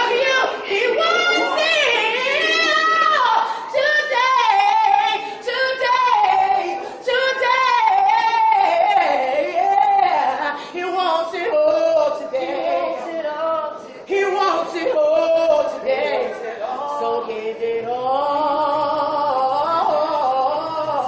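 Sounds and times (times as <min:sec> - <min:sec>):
woman singing unaccompanied: 0:00.0 - 0:21.0.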